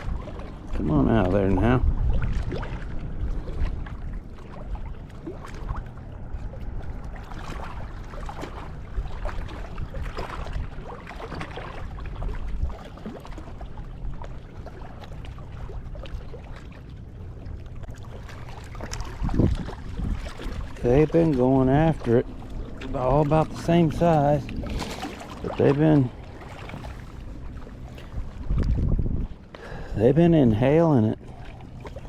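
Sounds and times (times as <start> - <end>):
wind buffeting microphone: 0.0 - 14.7, 18.3 - 31.8
water splashing and lapping: 0.0 - 32.0.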